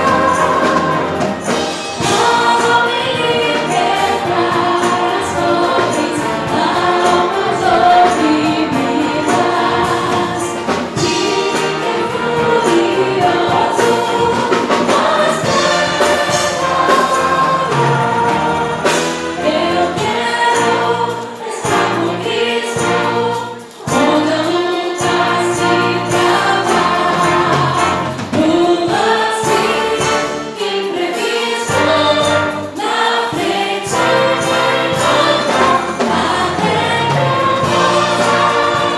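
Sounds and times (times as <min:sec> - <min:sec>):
choir singing gospel with band: 0:00.0 - 0:38.9.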